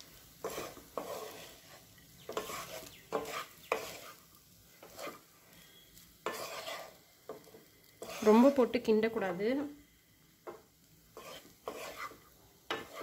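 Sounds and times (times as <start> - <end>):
wooden spatula scraping pan: 0.0 - 9.8, 10.4 - 13.0
rice sizzling in pan: 0.0 - 13.0.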